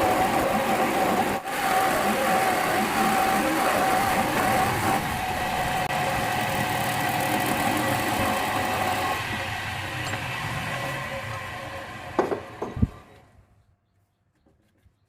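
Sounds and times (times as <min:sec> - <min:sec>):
wood lathe humming: 0:00.0 - 0:13.2.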